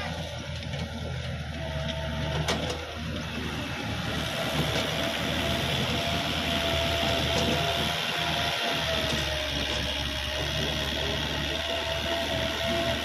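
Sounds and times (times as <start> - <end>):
diesel tractor running under load: 0.0 - 13.0
steady mechanical whine: 0.0 - 13.0.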